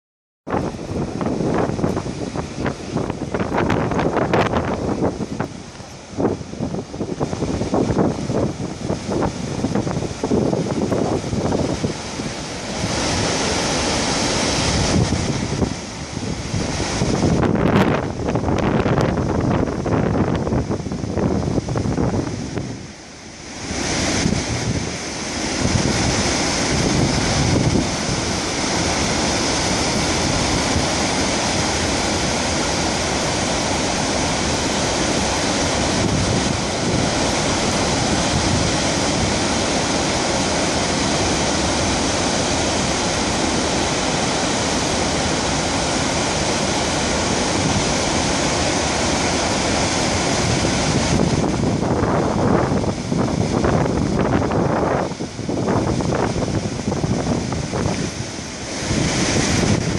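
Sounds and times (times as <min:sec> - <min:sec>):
waterfall rushing: 0:00.5 - 0:59.9
wind buffeting microphone: 0:00.5 - 0:59.9.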